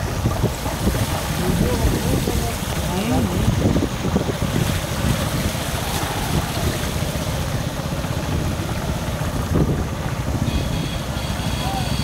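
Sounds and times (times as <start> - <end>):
small motorcycle engine running: 0.0 - 12.0
tyres splashing through water: 0.0 - 12.0.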